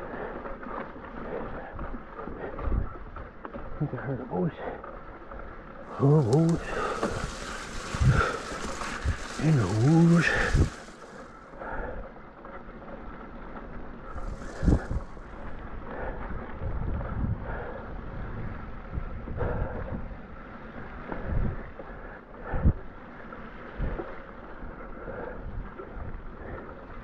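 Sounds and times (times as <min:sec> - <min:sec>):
mountain bike riding noise: 0:00.0 - 0:27.0
wind rumbling on microphone: 0:00.0 - 0:27.0.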